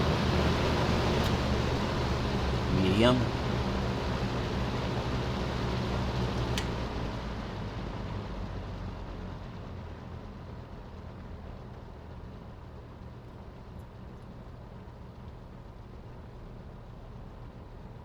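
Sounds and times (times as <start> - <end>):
box fan running: 0.0 - 18.0.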